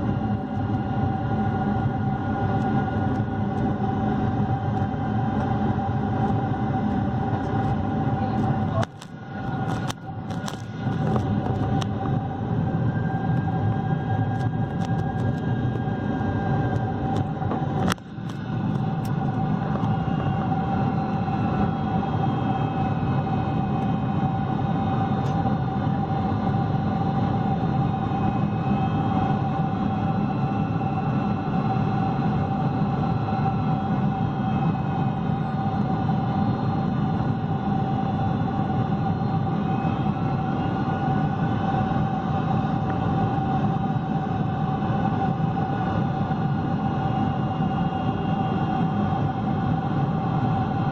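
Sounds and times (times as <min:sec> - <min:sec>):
jet engine cabin noise: 0:00.0 - 0:50.9
steady engine whine: 0:00.0 - 0:50.9.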